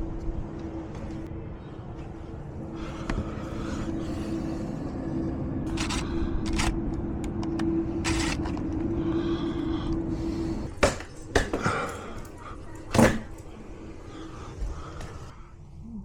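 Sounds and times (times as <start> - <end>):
mechanical hum with low rumble: 0.0 - 16.0.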